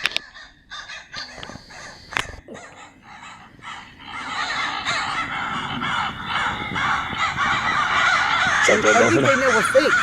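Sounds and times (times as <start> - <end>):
crows cawing: 0.0 - 10.0.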